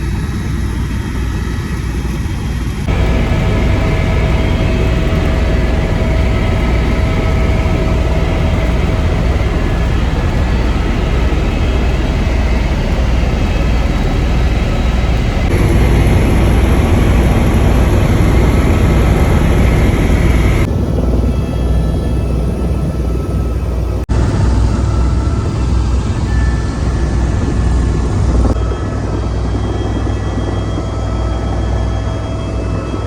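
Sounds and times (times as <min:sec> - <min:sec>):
helicopter engine and rotor drone: 0:00.0 - 0:33.0.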